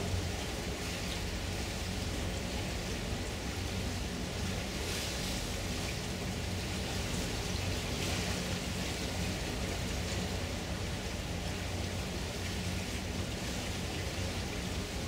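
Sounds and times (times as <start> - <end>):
rushing water and wind: 0.0 - 15.0.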